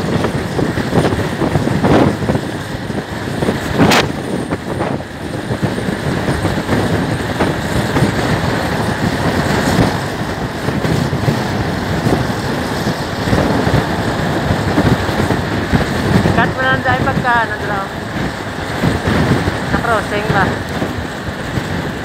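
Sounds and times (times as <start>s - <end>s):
scooter engine and tyre noise: 0.0s - 22.0s
wind buffeting microphone: 0.0s - 22.0s.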